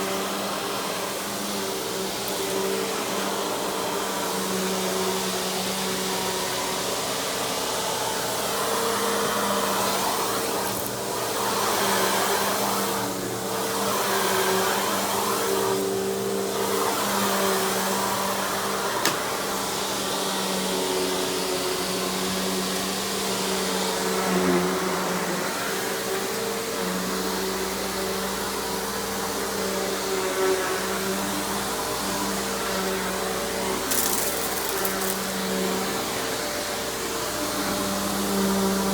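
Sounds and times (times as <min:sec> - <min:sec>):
upright vacuum running: 0:00.0 - 0:38.9.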